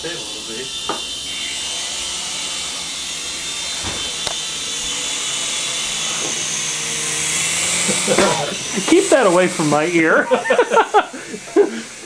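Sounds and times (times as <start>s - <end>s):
toy helicopter rotor whirring: 0.0s - 12.0s.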